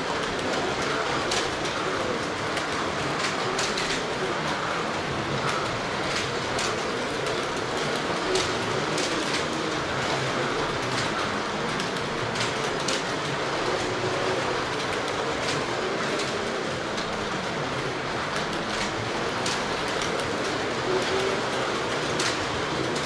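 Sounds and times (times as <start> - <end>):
cars rumbling on plastic track: 0.0 - 23.0
slot car motors whining: 0.0 - 23.0.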